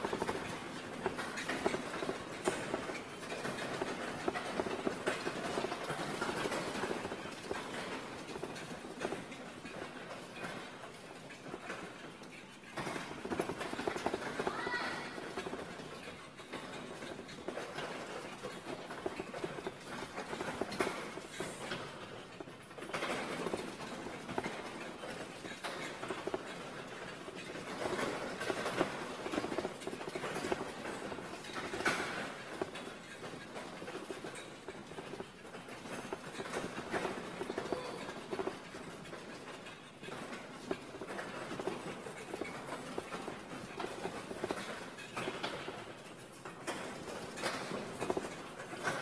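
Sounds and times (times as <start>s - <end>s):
caster wheels rattling on floor: 0.0s - 49.0s
small irregular clicks: 0.0s - 49.0s.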